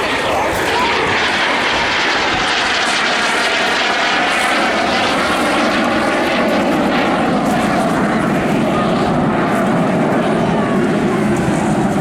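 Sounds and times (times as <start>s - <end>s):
jet engine in flight: 0.0s - 12.0s.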